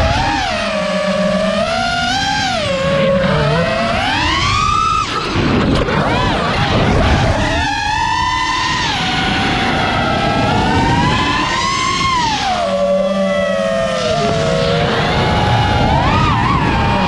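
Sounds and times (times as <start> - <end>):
quadcopter motors whining: 0.0 - 17.0
rush of air and prop noise: 0.0 - 17.0.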